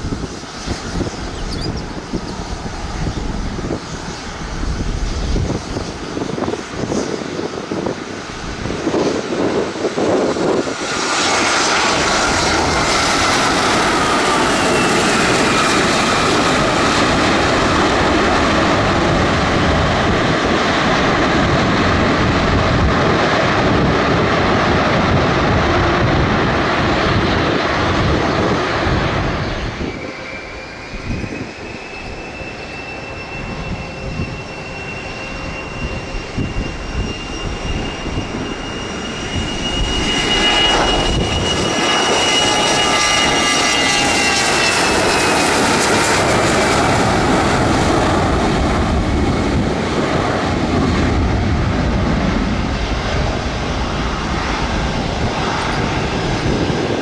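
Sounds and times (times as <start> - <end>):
aircraft engines whining: 0.0 - 57.0.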